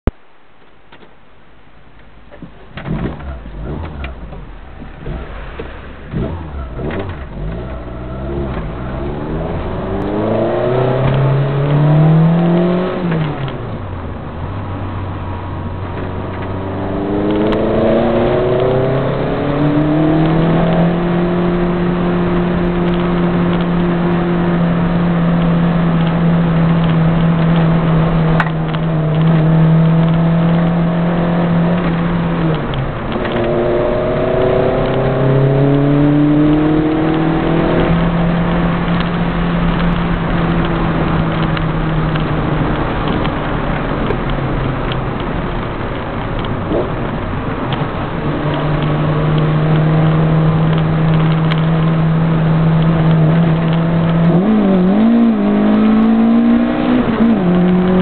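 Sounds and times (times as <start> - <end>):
rally car engine accelerating: 2.8 - 58.0.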